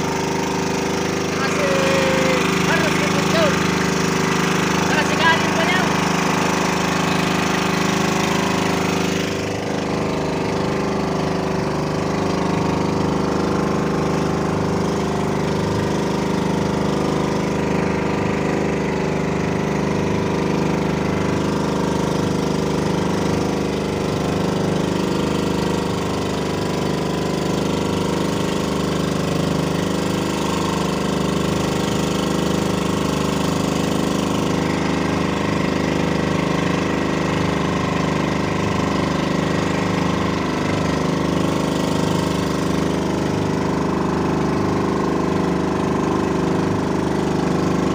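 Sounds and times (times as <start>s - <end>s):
boat engine running steadily: 0.0s - 47.9s.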